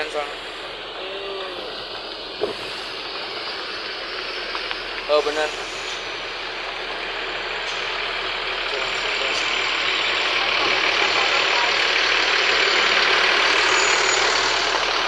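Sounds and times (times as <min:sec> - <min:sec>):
heavy vehicle driving past: 0:00.0 - 0:15.0.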